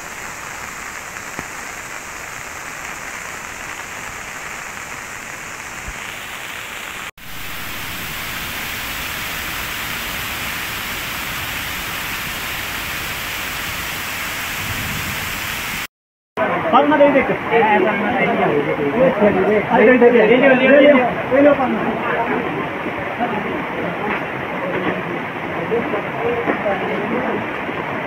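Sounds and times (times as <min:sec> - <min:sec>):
rain falling: 0:00.0 - 0:28.0
river rushing: 0:00.0 - 0:28.0.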